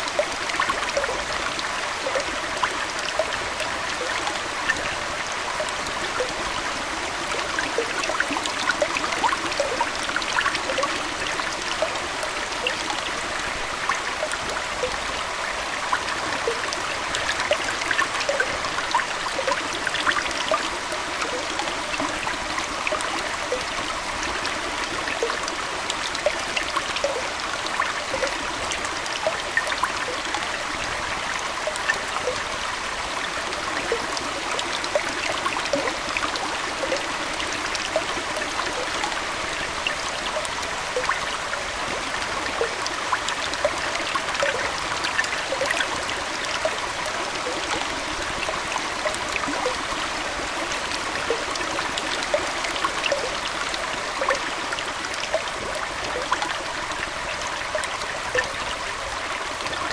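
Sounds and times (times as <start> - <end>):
aquarium water trickling: 0.0 - 59.9
water plinks and gurgles: 0.0 - 59.9.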